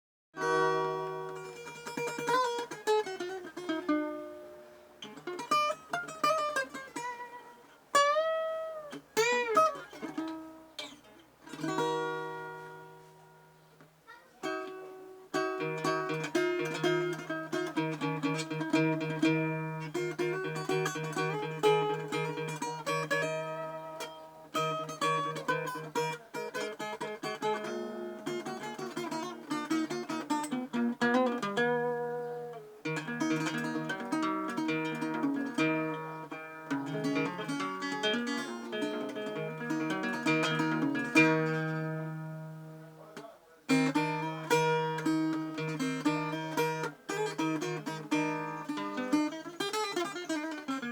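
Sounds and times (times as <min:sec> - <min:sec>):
guitar playing: 0:00.4 - 0:50.9.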